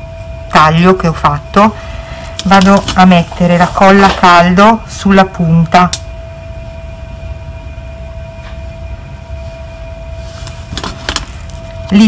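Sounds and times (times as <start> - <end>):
faint constant hum: 0.0 - 12.0
low room rumble: 0.0 - 12.0.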